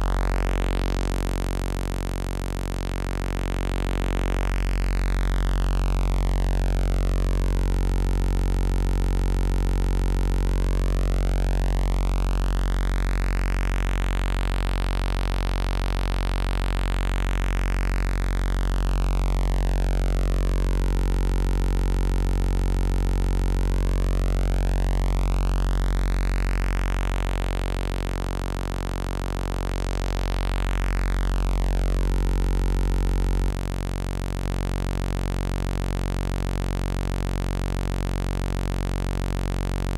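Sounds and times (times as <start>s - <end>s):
low buzzy synthesizer note: 0.0s - 39.9s.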